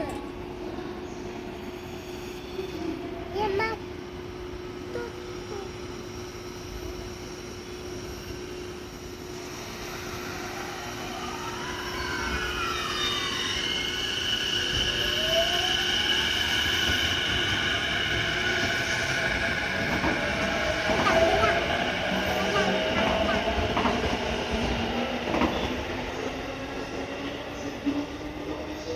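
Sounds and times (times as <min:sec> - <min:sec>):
electric train running: 0:01.5 - 0:28.9.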